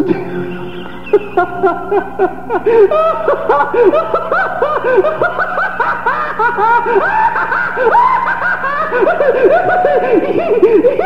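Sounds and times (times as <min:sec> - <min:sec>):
rapid laughter: 0:00.7 - 0:11.0.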